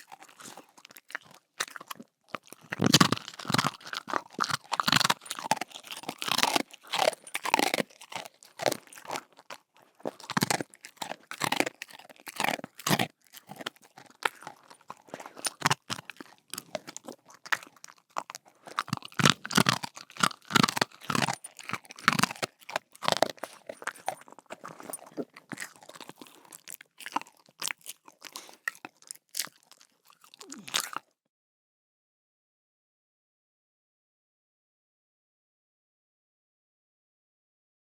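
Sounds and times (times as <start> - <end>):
dog crunching a bone: 0.0 - 31.1.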